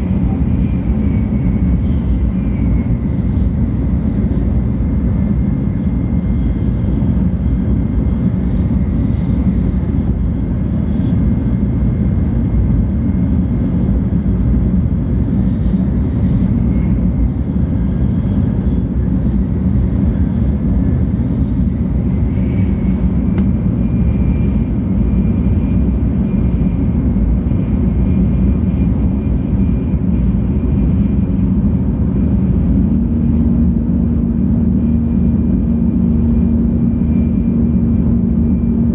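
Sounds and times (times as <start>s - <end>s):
faint high whine: 0.0s - 38.9s
train rumbling at speed: 0.0s - 38.9s.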